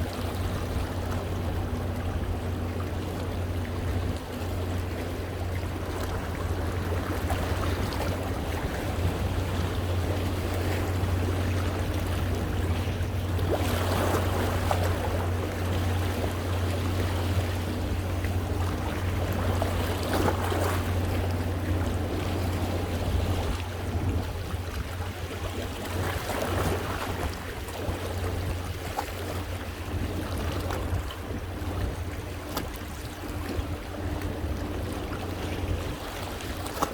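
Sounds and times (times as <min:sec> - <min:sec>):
steady low hum: 0:00.0 - 0:36.9.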